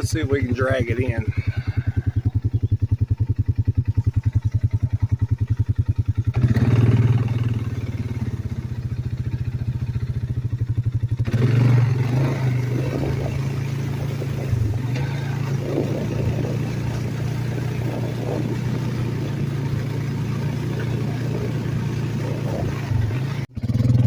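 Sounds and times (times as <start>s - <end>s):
atv engine idling and pulling away: 0.0s - 24.0s.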